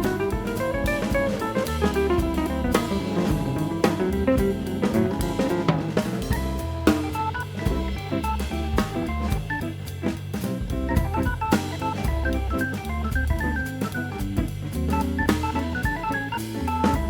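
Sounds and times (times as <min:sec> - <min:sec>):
drum kit beat: 0:00.0 - 0:17.0
upbeat instrumental music: 0:00.0 - 0:17.0.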